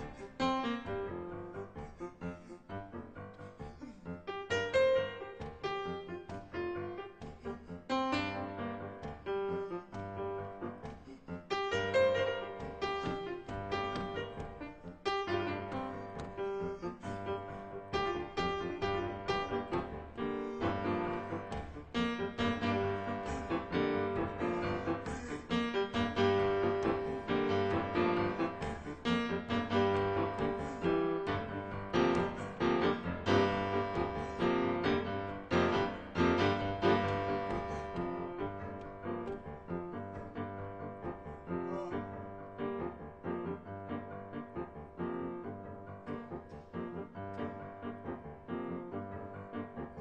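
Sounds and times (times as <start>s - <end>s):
solo piano music: 0.0s - 50.0s.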